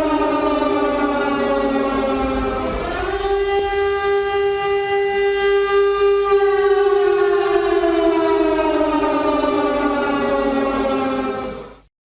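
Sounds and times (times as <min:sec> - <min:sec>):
air raid siren: 0:00.0 - 0:11.9.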